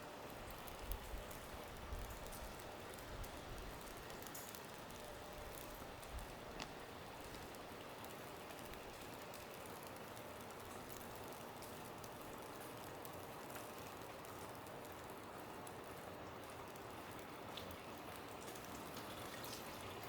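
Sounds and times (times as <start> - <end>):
light ticks pattering: 0.1 - 20.0.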